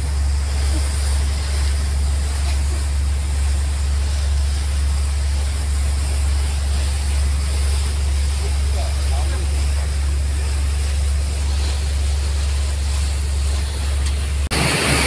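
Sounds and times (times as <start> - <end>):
boat engine droning: 0.0 - 15.0
water rushing from wake: 0.0 - 15.0.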